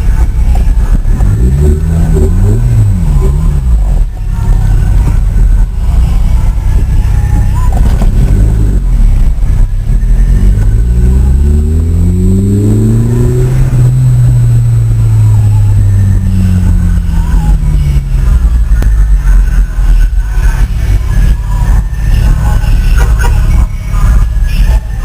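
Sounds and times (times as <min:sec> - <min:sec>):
car engine revving: 0:00.0 - 0:25.0
heavy low rumble: 0:00.0 - 0:25.0.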